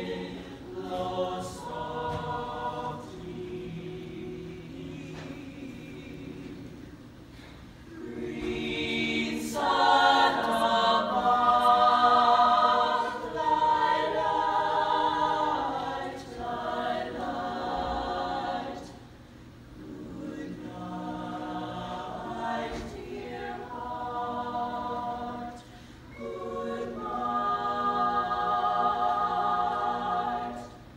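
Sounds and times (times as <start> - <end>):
mixed choir singing: 0.0 - 7.0, 7.9 - 30.9.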